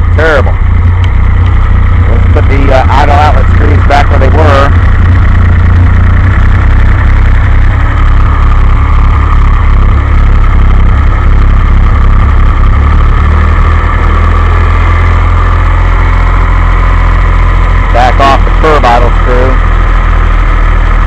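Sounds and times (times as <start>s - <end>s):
car engine idling roughly: 0.0s - 21.0s.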